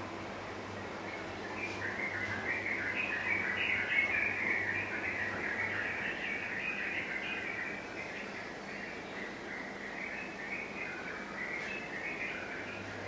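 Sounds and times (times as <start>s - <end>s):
birds chirping chorus: 0.0s - 13.0s
faint electrical hum: 0.0s - 13.0s.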